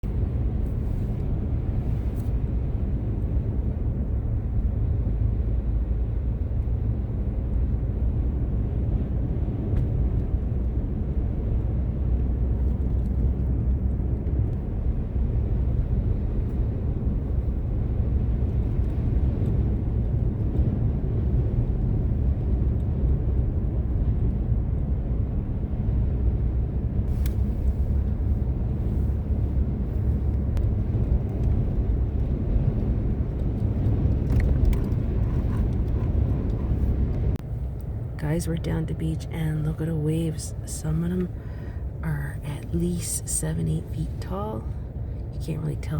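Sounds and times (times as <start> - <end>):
strong wind rumbling: 0.0 - 45.9.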